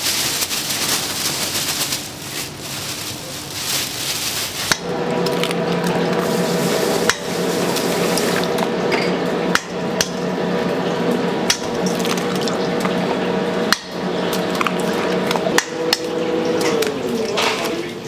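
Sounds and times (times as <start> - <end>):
kitchen machinery hum: 0.0 - 18.0.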